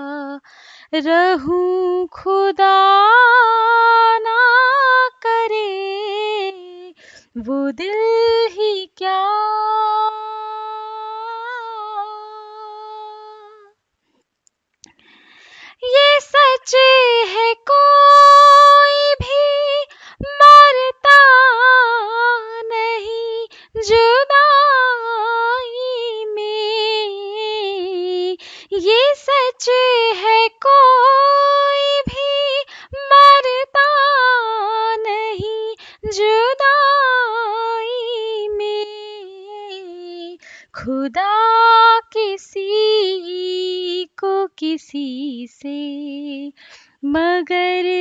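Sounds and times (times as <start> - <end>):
woman singing: 0.0 - 13.8, 15.7 - 48.0.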